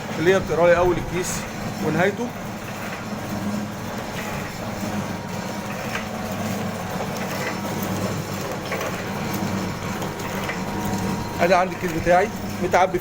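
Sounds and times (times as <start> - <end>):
light mechanical clacks: 0.0 - 13.0
machine motor hum: 0.0 - 13.0.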